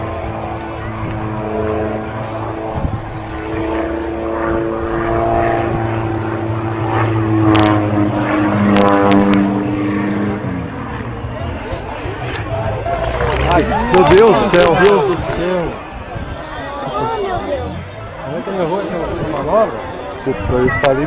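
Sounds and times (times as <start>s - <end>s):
propeller plane engine: 0.0s - 21.0s.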